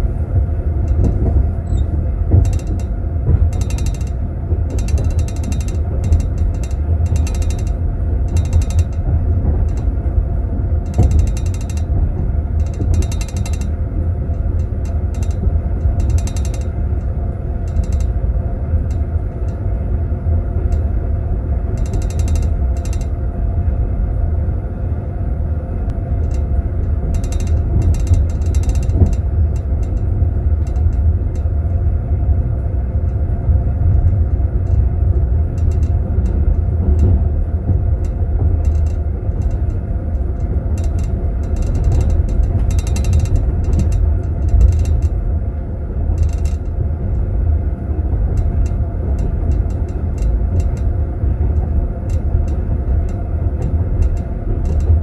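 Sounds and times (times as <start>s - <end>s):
train carriage rumble: 0.0s - 55.0s.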